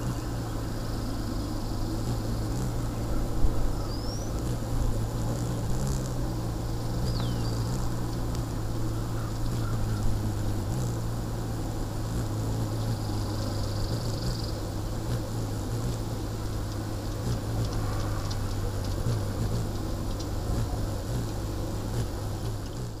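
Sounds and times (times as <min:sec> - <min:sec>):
hummingbird wings humming: 0:00.0 - 0:23.0.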